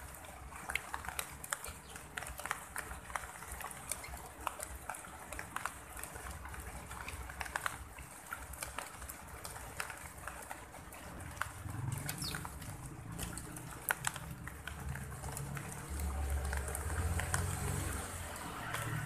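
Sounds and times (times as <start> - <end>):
sparrows pecking ticks: 0.1 - 18.0.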